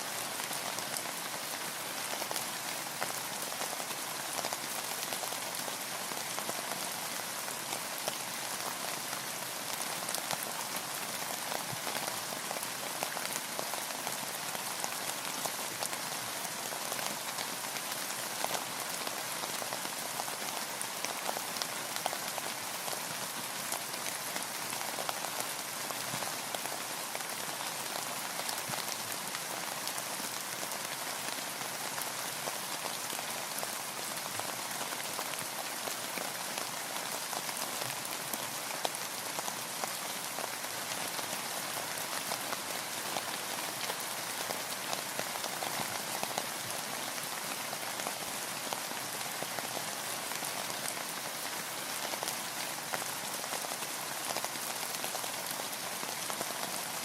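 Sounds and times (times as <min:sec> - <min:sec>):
rain falling on a boat: 0:00.0 - 0:57.0.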